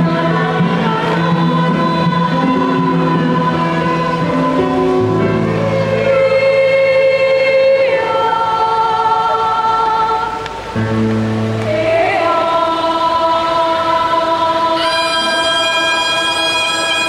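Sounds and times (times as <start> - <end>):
children's choir singing: 0.0 - 10.8, 11.5 - 17.0.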